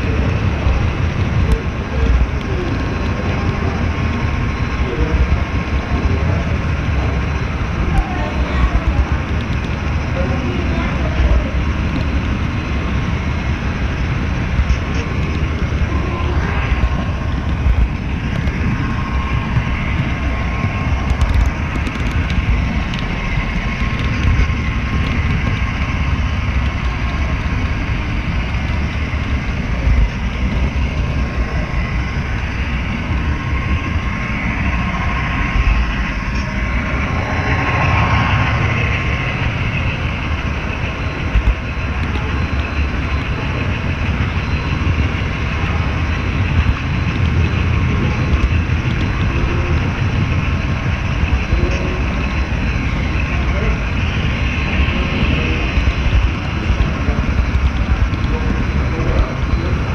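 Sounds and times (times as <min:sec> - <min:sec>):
faint steady whine: 0:00.0 - 0:59.9
model train wheels rumbling: 0:00.0 - 0:59.9.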